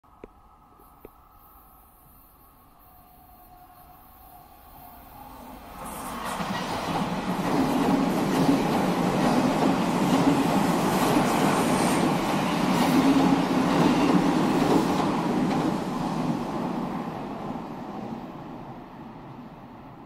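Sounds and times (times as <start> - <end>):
train wheels on rails: 0.7 - 19.6.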